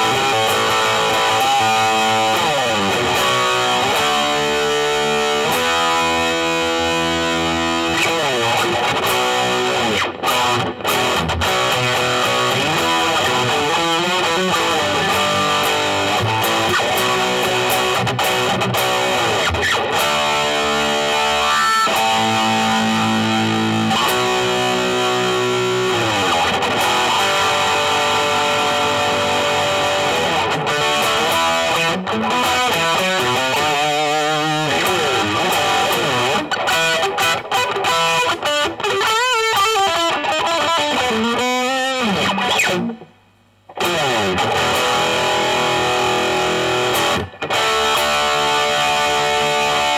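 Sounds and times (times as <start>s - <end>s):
electric guitar lead lines: 0.0s - 49.9s.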